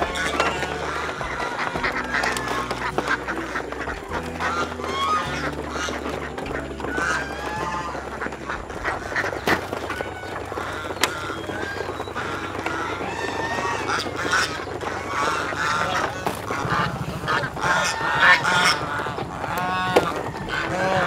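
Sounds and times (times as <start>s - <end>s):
background music low notes: 0.0s - 21.0s
ducks quacking: 0.0s - 21.0s
geese honking: 0.0s - 21.0s.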